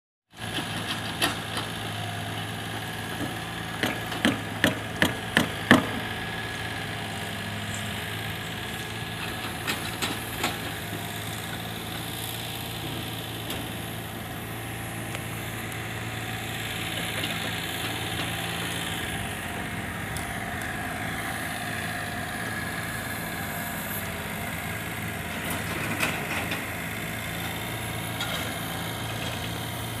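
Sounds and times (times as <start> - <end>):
vehicle engine humming: 0.4 - 30.0.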